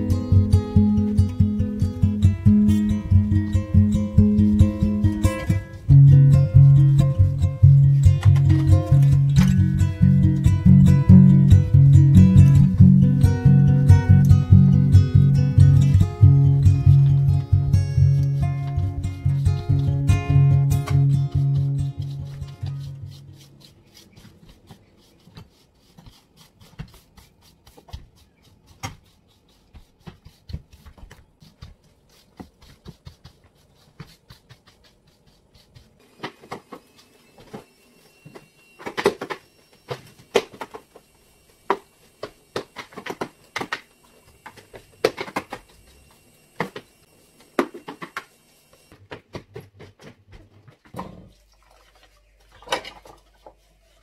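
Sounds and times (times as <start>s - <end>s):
broom sweeping wooden floor: 0.0s - 49.0s, 50.8s - 54.0s.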